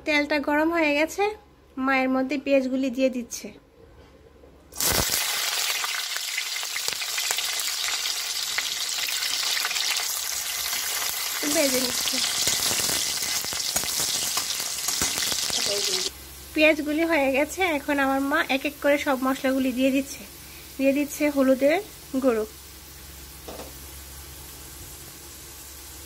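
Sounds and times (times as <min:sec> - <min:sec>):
onions sizzling in hot oil: 0:04.8 - 0:26.0.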